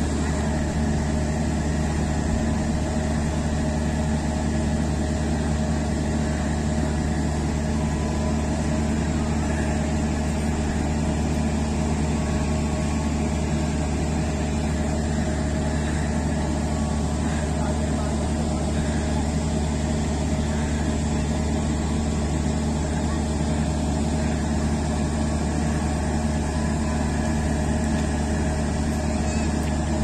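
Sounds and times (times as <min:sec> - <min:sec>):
diesel train engines idling: 0:00.0 - 0:30.0.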